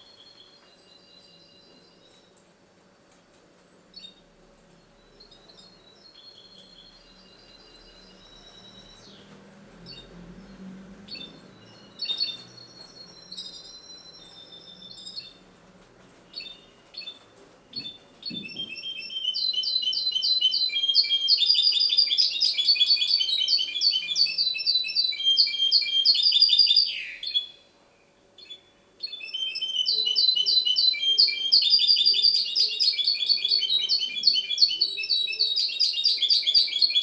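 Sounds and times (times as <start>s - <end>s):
songbird twittering and trilling: 3.9s - 4.2s, 4.8s - 15.4s, 16.3s - 37.0s.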